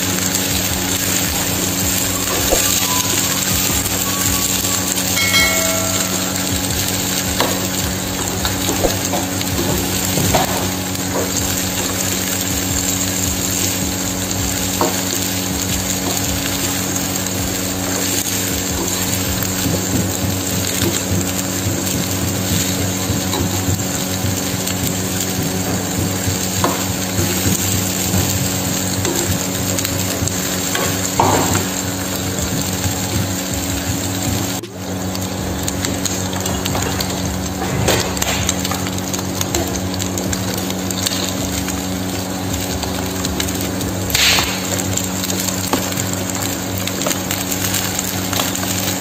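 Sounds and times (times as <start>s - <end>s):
food sizzling in a frying pan: 0.0s - 49.0s.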